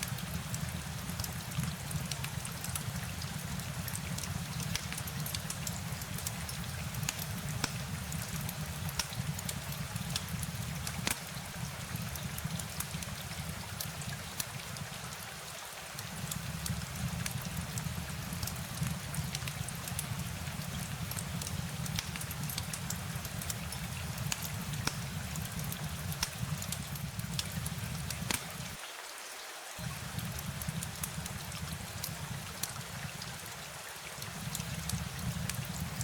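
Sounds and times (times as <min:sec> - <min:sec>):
rain hissing: 0:00.0 - 0:28.8, 0:29.8 - 0:36.0
raindrop ticks: 0:00.0 - 0:28.8, 0:29.8 - 0:36.0.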